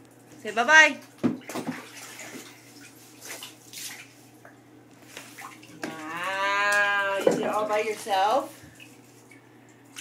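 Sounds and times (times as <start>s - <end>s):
bathwater splashing: 1.0s - 10.0s.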